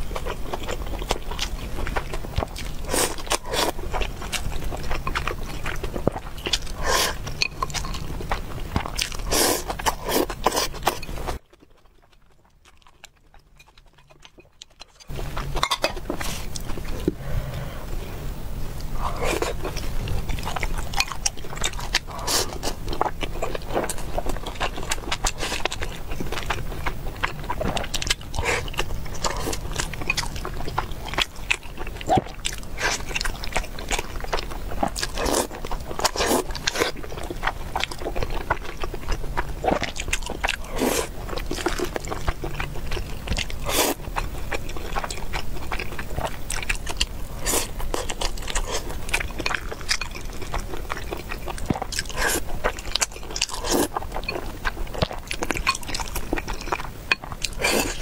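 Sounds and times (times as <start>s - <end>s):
wet chewing and lip smacks: 0.0s - 17.2s, 18.8s - 58.0s.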